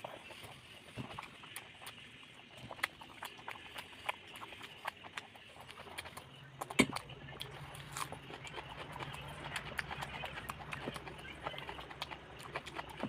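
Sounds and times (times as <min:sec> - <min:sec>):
chewing and eating sounds: 0:00.0 - 0:13.0
low steady hum: 0:00.0 - 0:13.0.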